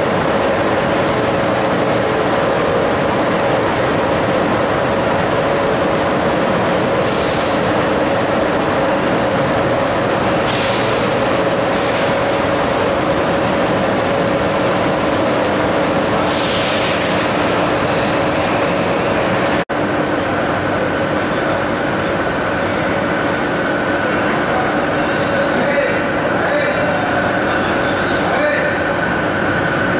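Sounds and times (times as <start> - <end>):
electric train humming: 0.0 - 29.9.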